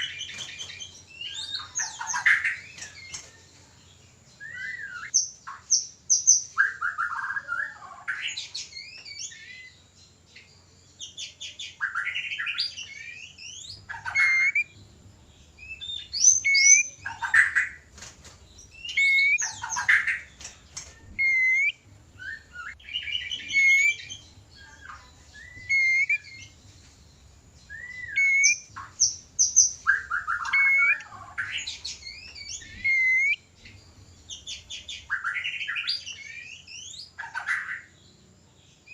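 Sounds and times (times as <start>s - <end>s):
songbird singing whistles and trills: 0.0s - 17.9s, 18.6s - 38.9s.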